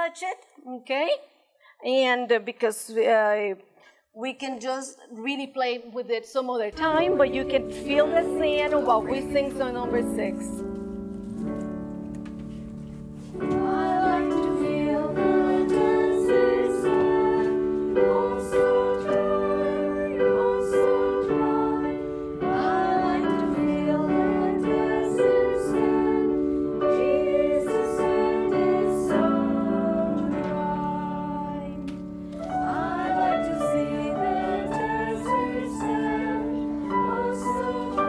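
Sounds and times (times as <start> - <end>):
keyboard chords: 6.8 - 38.0.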